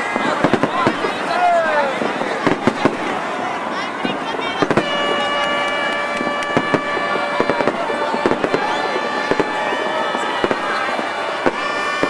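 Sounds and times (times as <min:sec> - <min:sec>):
fireworks bangs and crackles: 0:00.0 - 0:12.0
fireworks whistling: 0:00.0 - 0:12.0.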